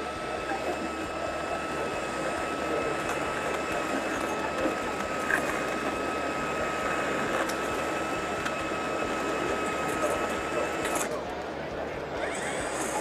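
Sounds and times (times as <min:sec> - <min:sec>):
motor whining: 0:00.0 - 0:11.2, 0:12.0 - 0:13.0.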